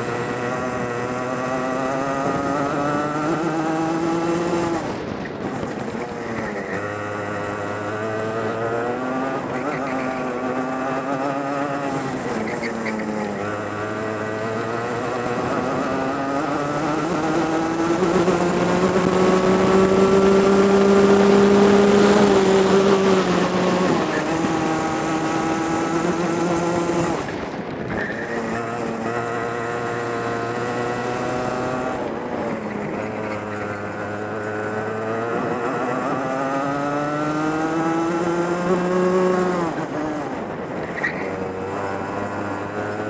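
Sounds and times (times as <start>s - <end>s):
racing kart engine revving: 0.0s - 43.0s.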